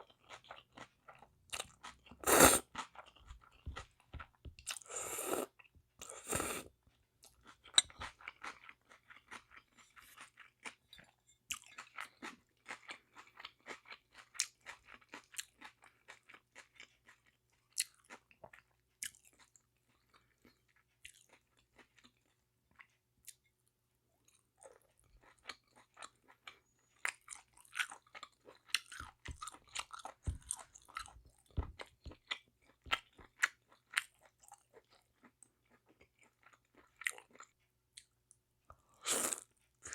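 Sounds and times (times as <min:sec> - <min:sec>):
close chewing mouth sounds: 0:00.0 - 0:10.8, 0:11.5 - 0:23.4, 0:24.2 - 0:38.2.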